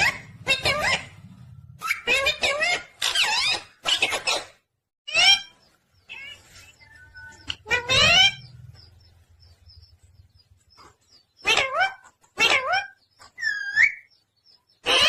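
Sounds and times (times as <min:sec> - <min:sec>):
parrot calling: 0:00.0 - 0:09.1, 0:11.4 - 0:14.1, 0:14.8 - 0:15.0.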